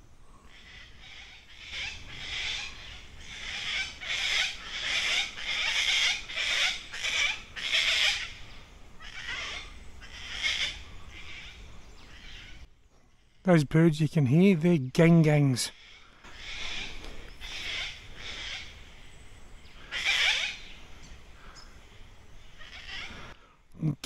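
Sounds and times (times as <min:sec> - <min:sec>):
cockatoos calling harshly: 0:00.4 - 0:13.4, 0:15.7 - 0:23.6.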